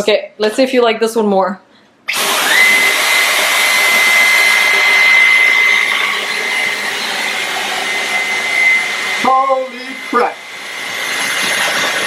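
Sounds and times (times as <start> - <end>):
stick vacuum whining: 2.1 - 12.0.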